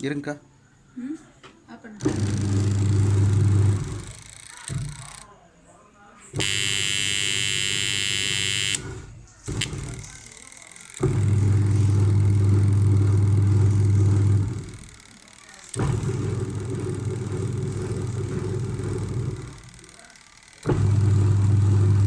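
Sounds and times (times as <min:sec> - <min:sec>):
washing machine motor humming: 0:02.0 - 0:05.4, 0:06.4 - 0:22.0.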